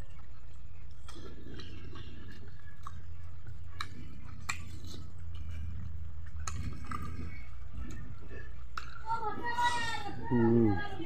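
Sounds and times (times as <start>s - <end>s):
wet mouth clicks and smacks: 0.0s - 9.0s
person chewing food: 0.0s - 9.2s
low hum: 0.0s - 11.0s.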